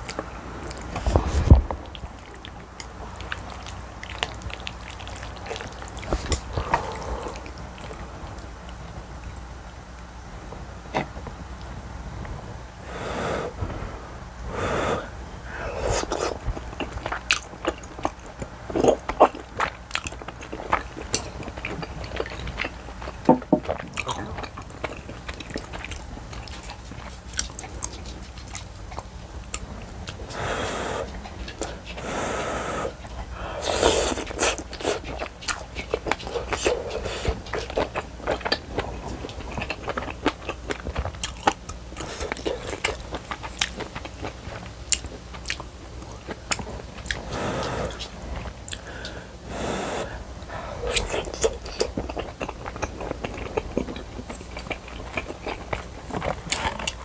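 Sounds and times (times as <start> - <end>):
wet chewing: 0.0 - 10.2, 14.5 - 57.0.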